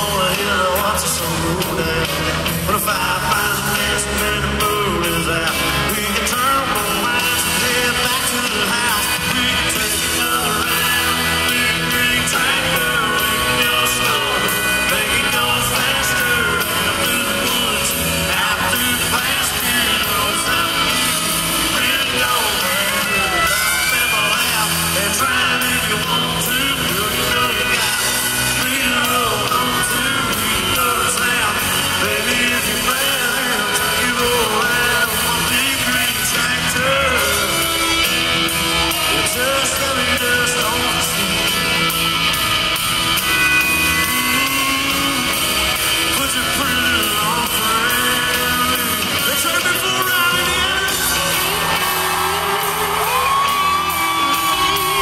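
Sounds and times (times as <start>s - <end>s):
country band with lead vocals: 0.0s - 55.0s
crowd yelling: 0.0s - 55.0s.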